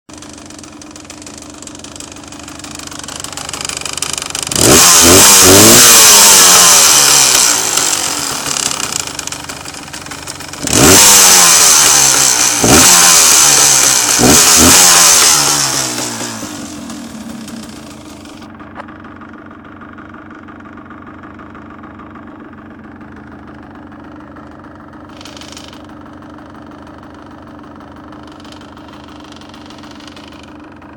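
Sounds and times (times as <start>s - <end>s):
motorcycle engine idling and revving: 0.1s - 30.9s.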